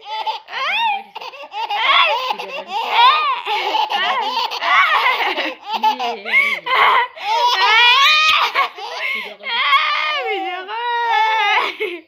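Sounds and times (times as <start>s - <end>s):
childlike laughter: 0.0s - 10.6s.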